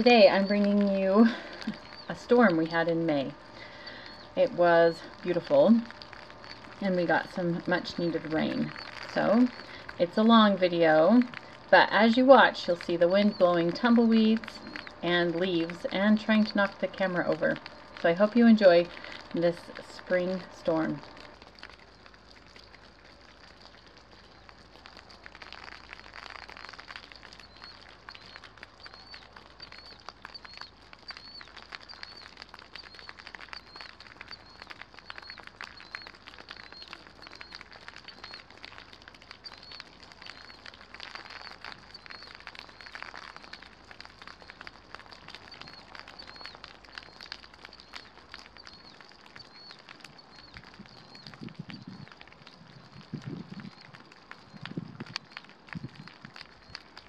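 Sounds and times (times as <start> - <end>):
bird chirping: 0.0 - 23.0, 24.0 - 56.9
rain pattering on wet ground: 0.0 - 57.0.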